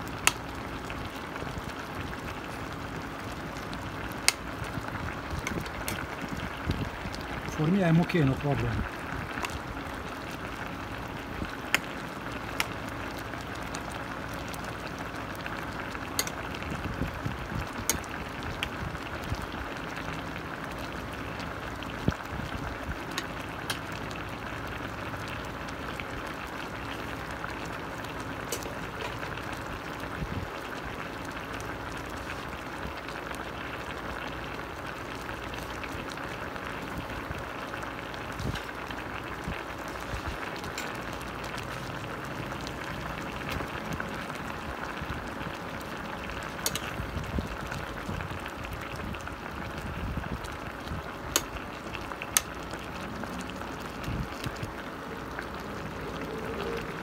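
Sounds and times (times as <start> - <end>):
liquid bubbling in a pot: 0.0 - 57.0.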